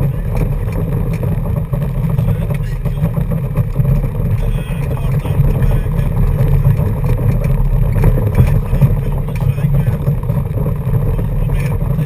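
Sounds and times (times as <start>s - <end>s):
car engine rumble in cabin: 0.0s - 12.0s
tyres on dirt track: 0.0s - 12.0s.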